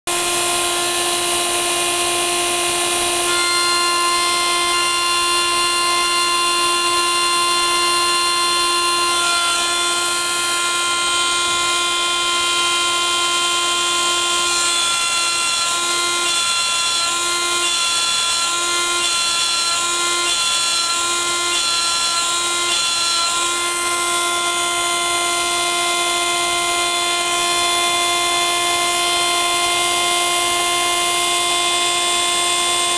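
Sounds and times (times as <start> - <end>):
milling spindle whining: 2.6 - 32.9.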